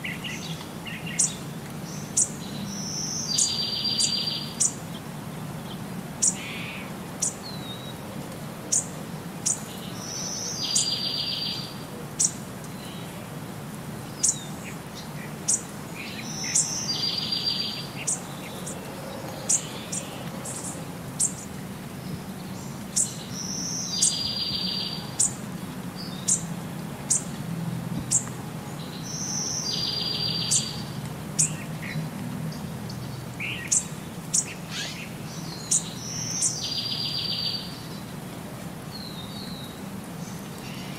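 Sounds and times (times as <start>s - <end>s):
birds chirping: 0.0s - 8.0s, 8.7s - 13.2s, 14.0s - 38.2s.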